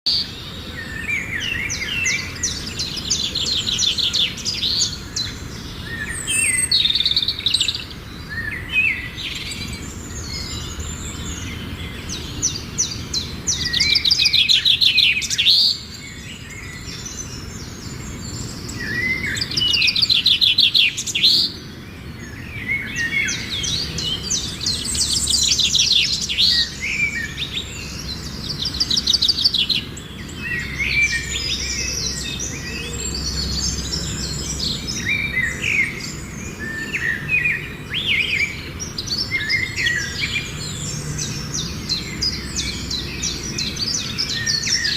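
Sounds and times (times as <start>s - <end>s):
lovebirds chirping and chattering: 0.1s - 44.9s.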